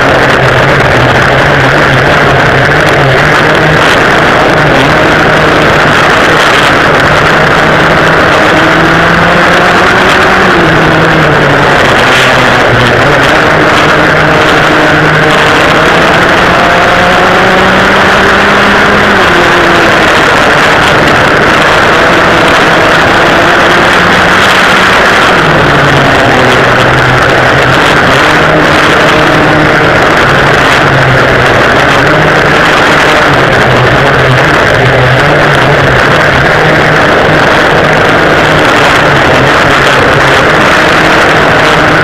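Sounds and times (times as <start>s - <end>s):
two-stroke kart engines racing: 0.0s - 42.0s
wind rush over microphone: 0.0s - 42.0s.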